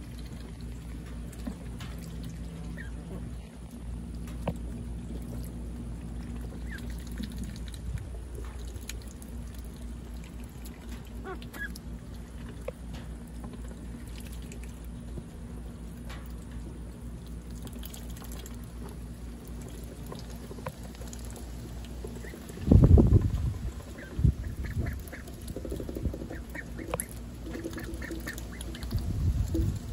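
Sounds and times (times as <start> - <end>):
duck dabbling in water: 0.0 - 15.3, 17.2 - 29.9.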